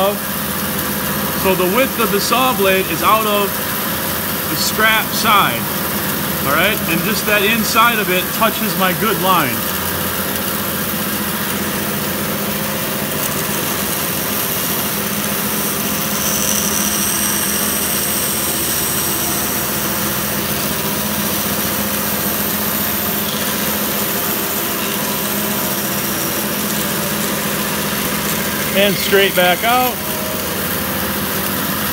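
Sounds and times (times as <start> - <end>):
bandsaw cutting wood: 1.2 - 31.9.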